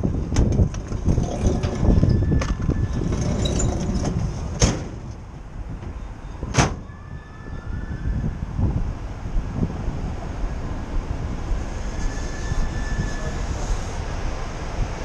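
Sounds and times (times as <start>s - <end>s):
traffic rumble: 0.0s - 15.0s
wind: 0.0s - 15.0s.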